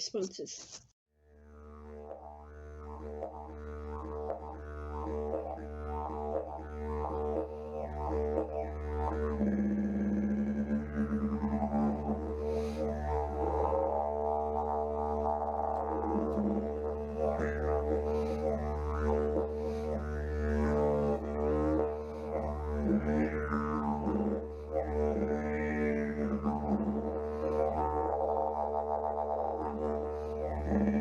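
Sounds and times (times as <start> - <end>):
didgeridoo drone: 1.5 - 31.0.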